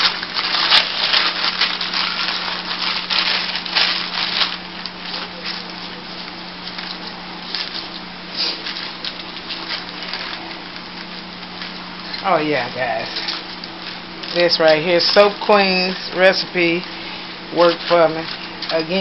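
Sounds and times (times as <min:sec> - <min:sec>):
plastic and newspaper crinkling: 0:00.0 - 0:19.0.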